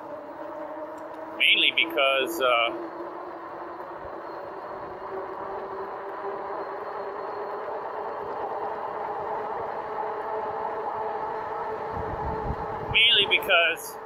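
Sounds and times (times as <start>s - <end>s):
electric bike motor hum: 0.0s - 14.0s.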